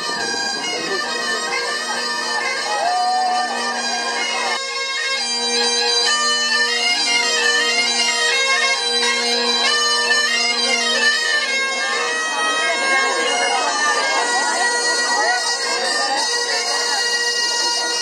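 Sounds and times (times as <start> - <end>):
bagpipes playing: 0.0 - 18.0.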